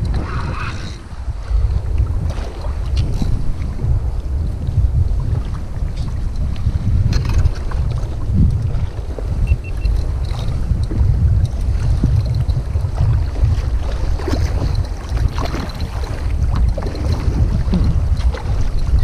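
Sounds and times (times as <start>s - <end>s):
waves lapping against hull: 0.0s - 19.0s
wind buffeting microphone: 0.0s - 19.0s.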